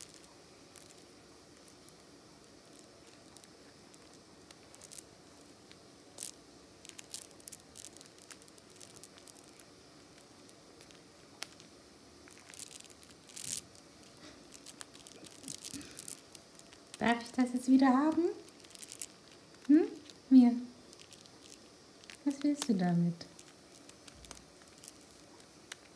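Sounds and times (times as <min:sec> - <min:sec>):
beads clicking against beak: 0:00.0 - 0:25.9
soft rustling: 0:00.0 - 0:25.9.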